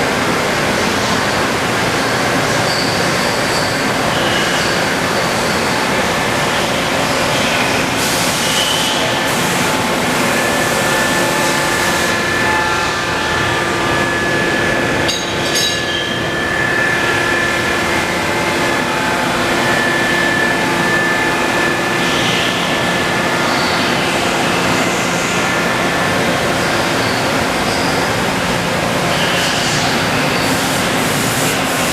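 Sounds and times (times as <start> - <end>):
machine shop rumble and hiss: 0.0 - 31.9.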